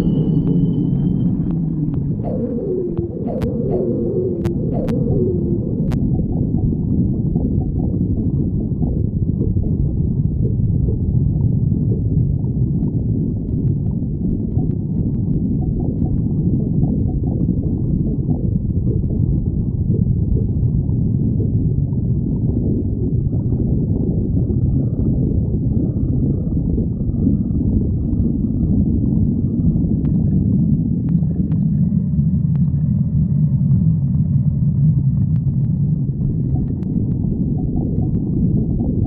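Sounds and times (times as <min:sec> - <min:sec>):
stomach growling: 0:00.0 - 0:39.0.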